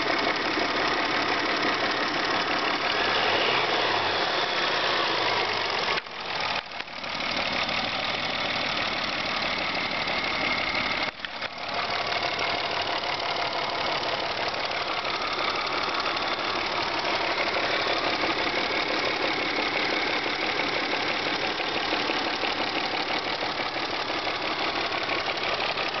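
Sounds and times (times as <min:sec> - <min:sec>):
car engine knocking: 0:00.0 - 0:03.1, 0:05.0 - 0:26.0.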